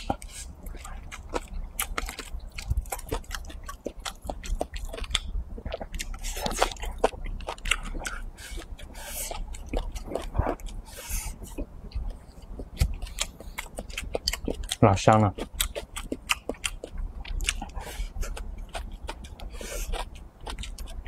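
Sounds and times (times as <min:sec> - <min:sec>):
person chewing and lip-smacking: 0:00.0 - 0:21.0.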